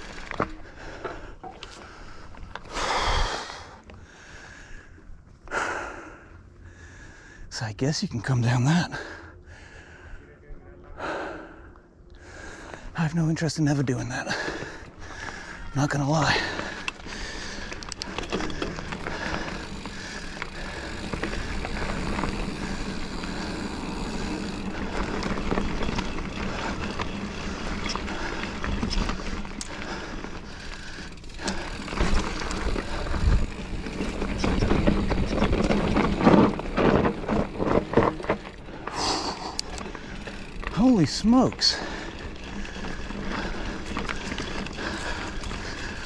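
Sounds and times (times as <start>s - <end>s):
bike tyres on dirt: 0.0s - 6.8s, 8.2s - 46.0s
bike rattling: 0.0s - 7.1s, 12.2s - 46.0s.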